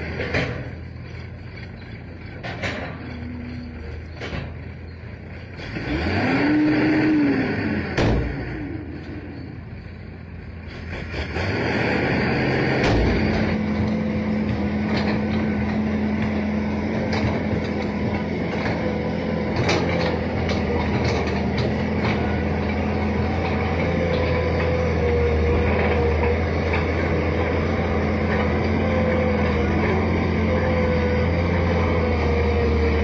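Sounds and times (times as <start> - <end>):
diesel engine drone: 0.0 - 33.0.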